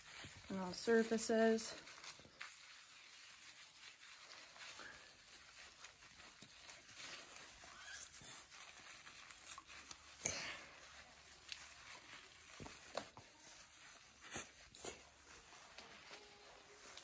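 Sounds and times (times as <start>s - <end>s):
washcloth scrubbing a foot: 0.0s - 17.0s.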